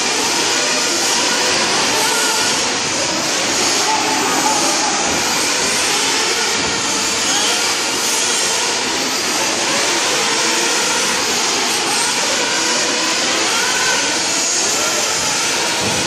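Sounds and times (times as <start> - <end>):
rc car engines whining: 0.0 - 16.0.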